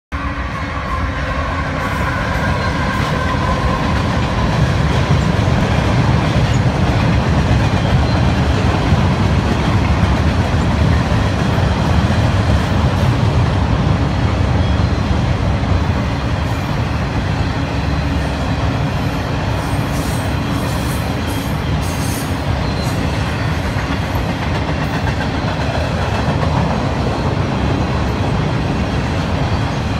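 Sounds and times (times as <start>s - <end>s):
diesel locomotive passing: 0.1s - 29.9s
freight cars rumbling on rails: 0.1s - 29.9s.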